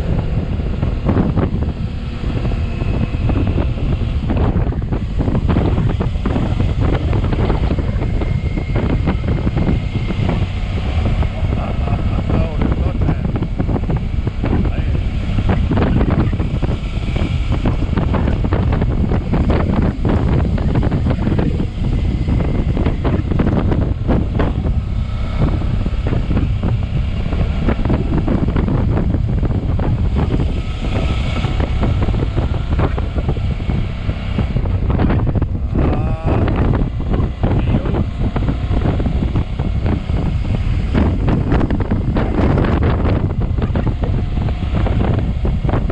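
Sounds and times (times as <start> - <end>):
motorcycle engine: 0.0 - 45.9
road noise: 0.0 - 45.9
wind buffeting on microphone: 0.0 - 45.9.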